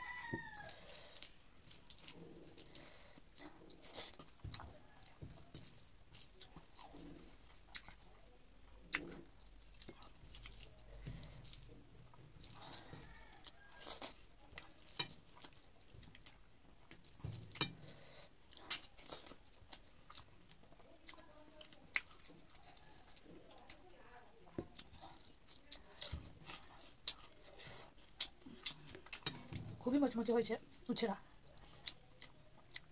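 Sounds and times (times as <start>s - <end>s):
crunchy chewing: 0.0s - 32.9s
fingers mixing rice on plate: 0.0s - 32.9s.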